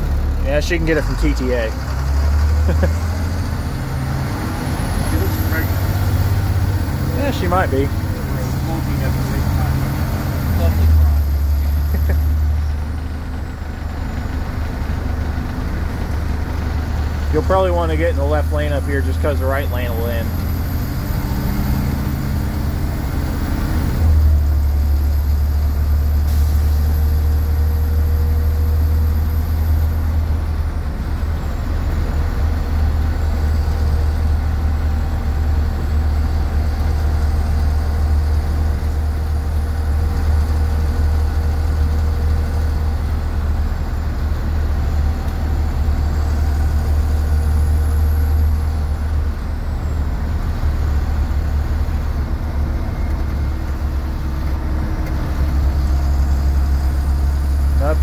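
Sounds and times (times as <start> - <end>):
bus diesel engine drone: 0.0 - 58.0
road noise: 0.0 - 58.0.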